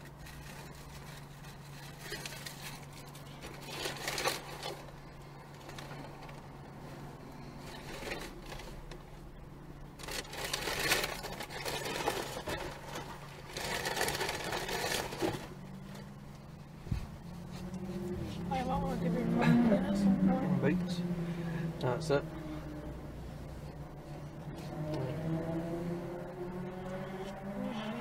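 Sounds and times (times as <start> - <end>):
car engine idling: 0.0 - 28.0
traffic passing: 0.0 - 28.0.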